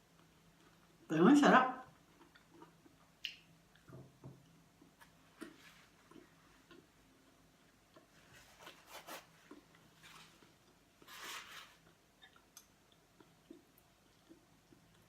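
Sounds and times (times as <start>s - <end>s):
faint eating sounds: 0.0s - 15.0s.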